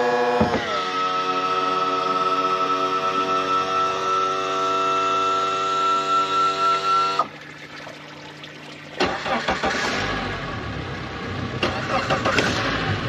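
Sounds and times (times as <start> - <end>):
outboard motor cranking: 0.0 - 10.8, 11.6 - 12.9.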